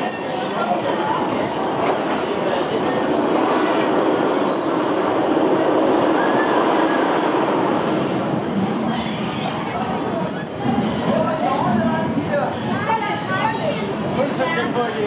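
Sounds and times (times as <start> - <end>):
roller coaster wheels rumbling on rails: 0.0 - 15.0.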